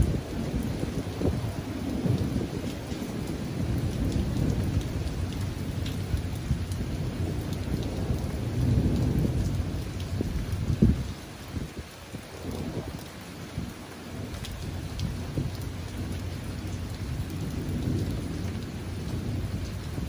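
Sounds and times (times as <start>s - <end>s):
steady rain: 0.0s - 20.0s
thunder rumbling: 0.0s - 20.0s.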